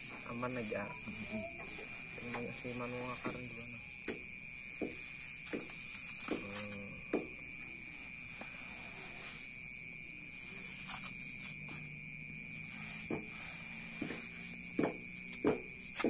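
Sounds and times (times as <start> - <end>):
night insects chirping: 0.0 - 16.0.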